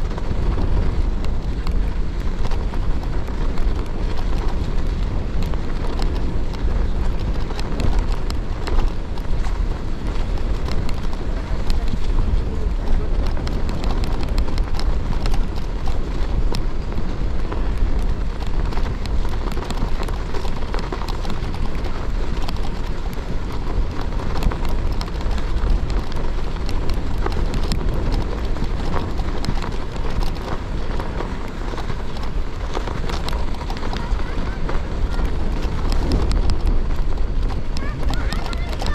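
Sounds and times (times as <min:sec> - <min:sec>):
bike tyres crunching on snow: 0:00.0 - 0:38.9
wind rumble on microphone: 0:00.0 - 0:38.9.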